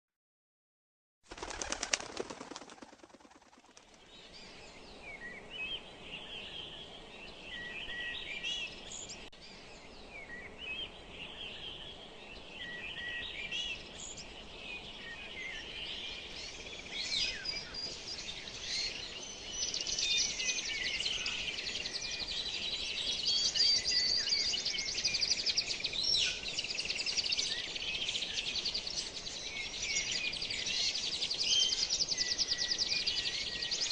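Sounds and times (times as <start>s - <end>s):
small birds chirping and trilling: 1.4s - 33.9s.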